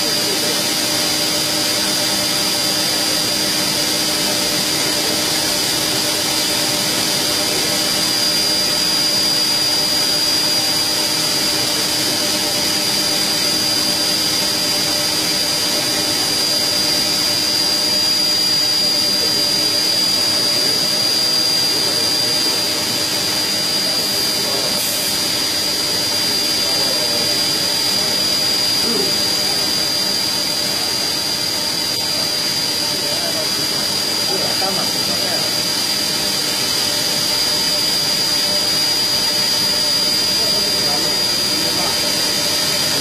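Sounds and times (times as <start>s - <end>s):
factory machinery whine and hum: 0.0s - 43.0s.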